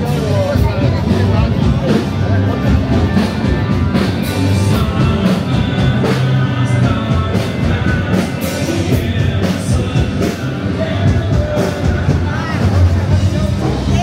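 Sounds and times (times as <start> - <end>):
drum kit: 0.0 - 14.0
guitar: 0.0 - 14.0
loud rock music: 0.0 - 14.0
person singing: 0.0 - 14.0.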